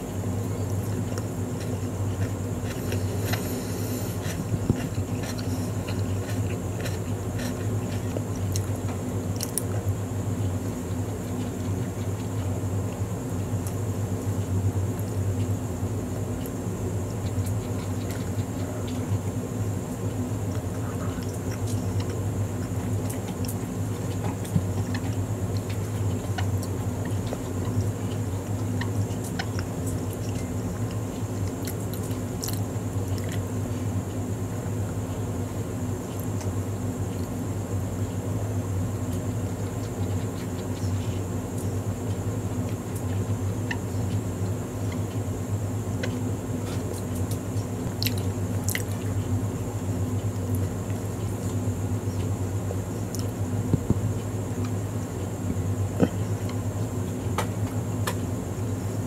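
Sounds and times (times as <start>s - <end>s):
chewing soft bread: 0.0s - 59.0s
steady low hum: 0.0s - 59.0s.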